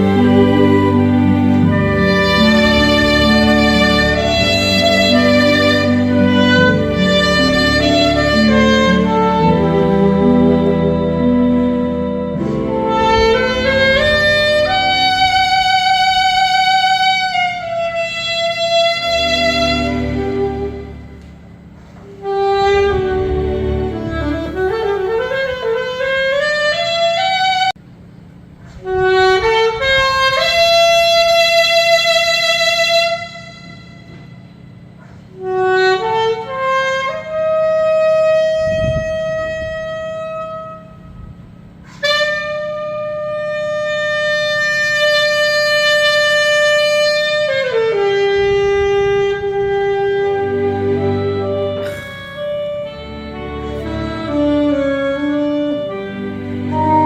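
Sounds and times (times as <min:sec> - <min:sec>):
saxophone playing slow melody: 0:00.0 - 0:27.8, 0:28.6 - 0:57.0.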